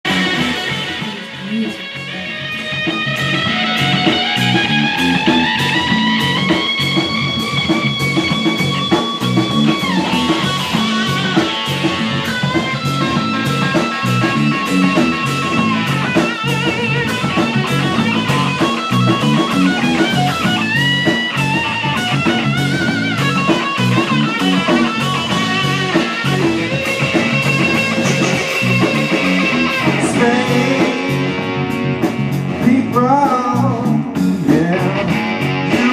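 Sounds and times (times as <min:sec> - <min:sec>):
electric guitar lead with slides: 0:00.0 - 0:35.9
steady drum beat: 0:00.0 - 0:35.9.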